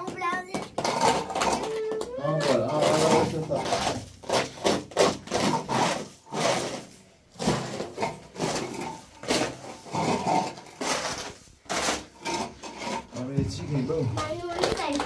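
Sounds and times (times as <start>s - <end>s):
rasping scrapes by hand: 0.5s - 13.4s.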